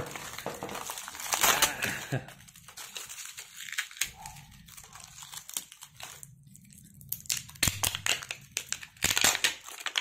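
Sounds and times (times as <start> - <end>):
plastic wrap crinkling and tearing: 0.0 - 10.0.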